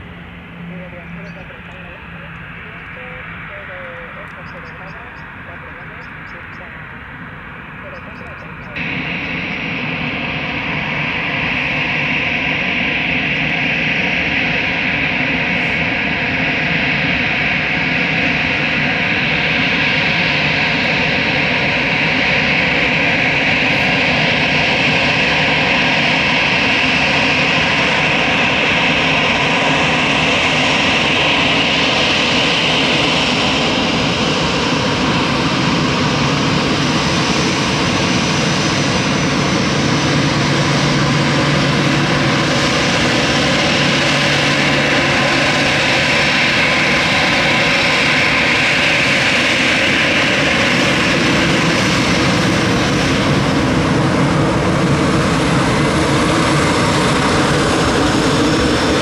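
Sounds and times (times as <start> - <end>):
jet engines roaring and whining: 0.0 - 59.0.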